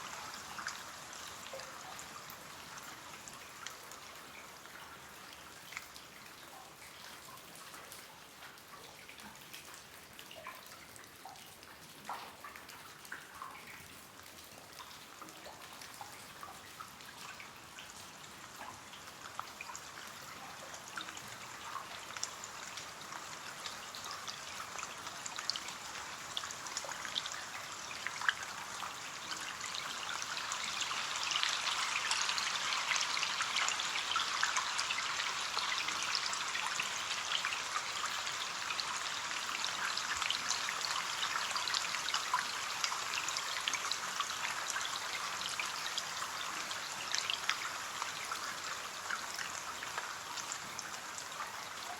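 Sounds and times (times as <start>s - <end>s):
rain on a window pane: 0.0s - 51.9s.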